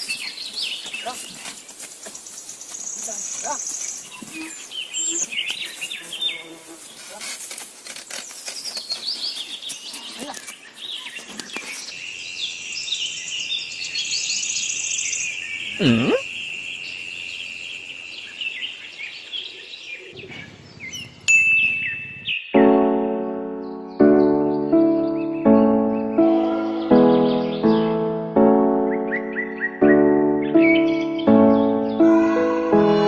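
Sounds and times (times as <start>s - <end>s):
birds chirping: 0.0s - 22.8s, 23.5s - 32.6s.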